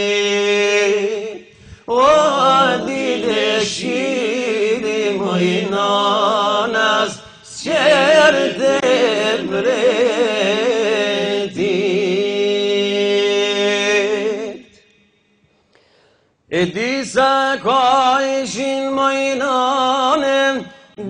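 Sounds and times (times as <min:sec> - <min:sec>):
man singing wordless melody: 0:00.0 - 0:14.8, 0:16.5 - 0:21.0.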